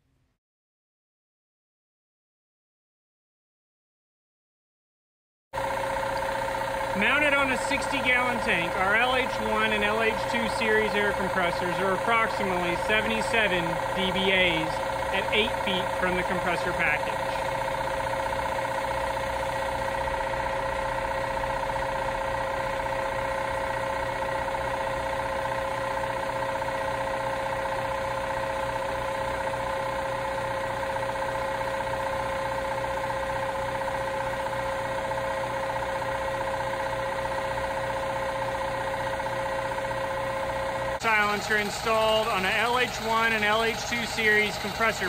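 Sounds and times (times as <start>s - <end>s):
air compressor running: 5.6s - 45.0s.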